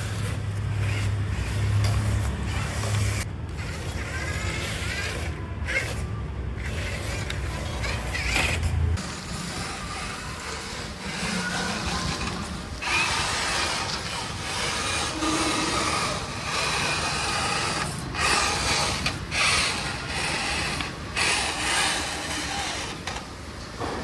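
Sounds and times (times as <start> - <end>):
small electric motor and gears whirring: 0.0 - 23.4.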